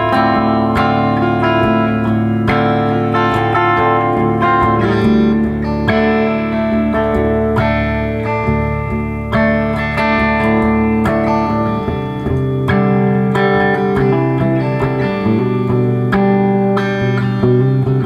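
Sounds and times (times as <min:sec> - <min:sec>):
electric guitar chords ringing: 0:00.0 - 0:18.0.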